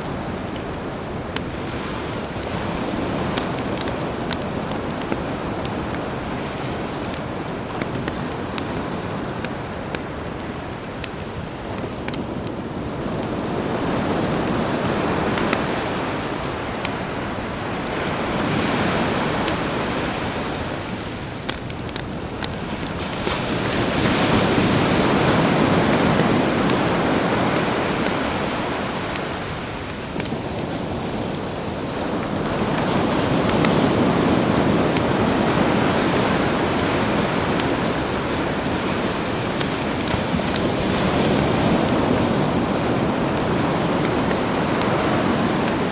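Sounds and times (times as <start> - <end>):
campfire crackling and popping: 0.0 - 45.9
sea waves washing ashore: 0.0 - 45.9.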